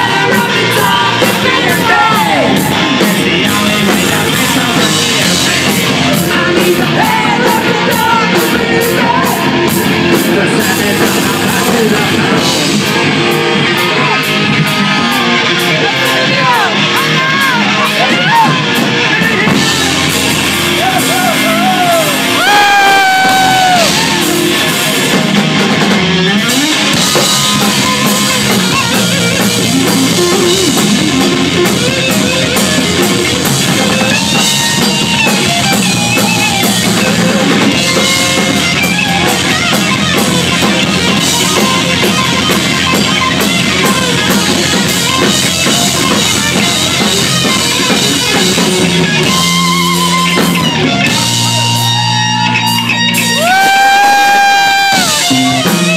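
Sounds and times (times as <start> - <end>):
bass guitar: 0.0 - 55.9
distorted electric guitars: 0.0 - 55.9
drum kit: 0.0 - 55.9.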